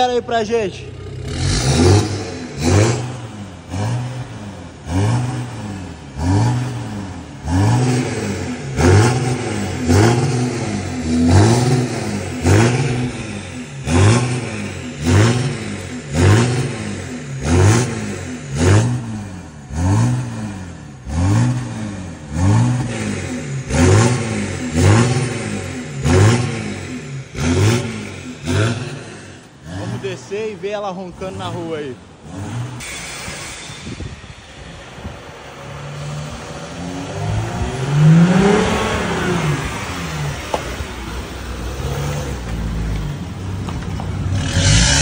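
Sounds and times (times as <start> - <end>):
diesel engine revving: 0.0 - 45.0.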